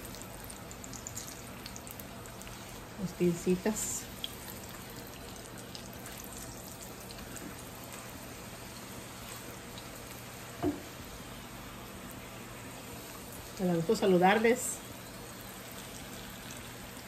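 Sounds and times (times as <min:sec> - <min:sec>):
tortillas sizzling in oil: 0:00.0 - 0:17.0.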